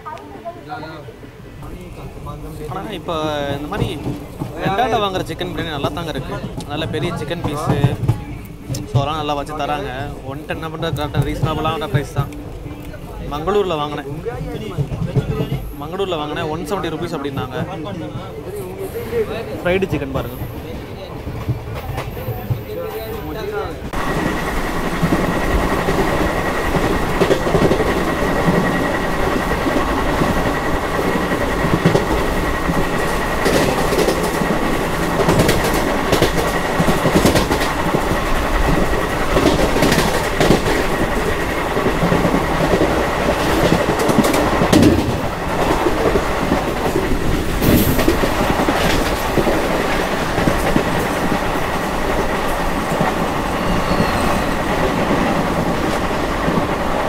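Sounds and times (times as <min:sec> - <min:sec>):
train wheels rumbling on rails: 0:01.5 - 0:57.0.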